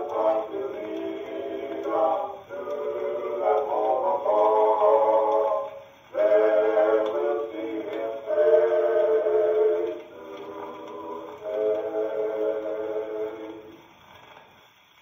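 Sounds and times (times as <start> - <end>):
male vocal quartet singing on phonograph: 0.0 - 13.8.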